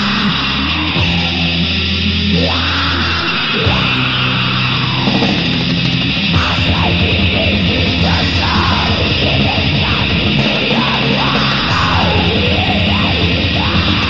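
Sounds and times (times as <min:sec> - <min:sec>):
black metal music: 0:00.0 - 0:14.0.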